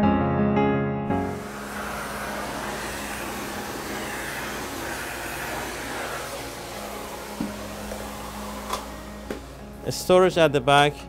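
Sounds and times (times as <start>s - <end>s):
vacuum cleaner running: 1.1s - 10.7s.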